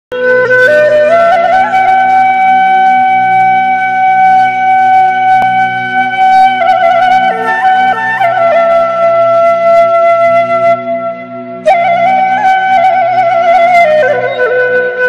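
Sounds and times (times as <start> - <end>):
woodwind melody: 0.1 - 15.0.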